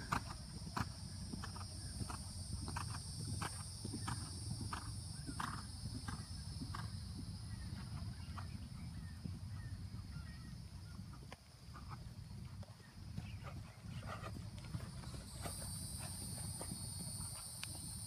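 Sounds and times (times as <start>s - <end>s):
horse hoofbeats on sand: 0.0s - 9.8s, 11.7s - 18.0s
high insect drone: 0.0s - 11.0s, 14.3s - 18.0s.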